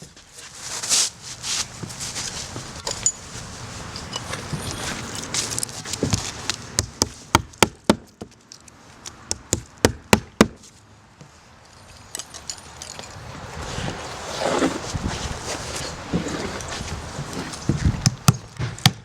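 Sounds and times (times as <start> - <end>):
rustling movement: 0.0 - 7.3, 10.6 - 18.6.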